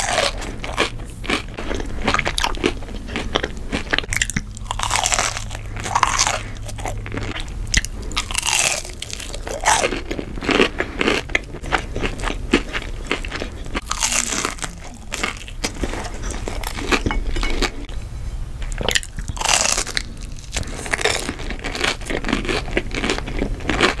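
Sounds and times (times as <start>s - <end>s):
person chewing crunchy food: 0.0s - 17.9s, 18.7s - 24.0s.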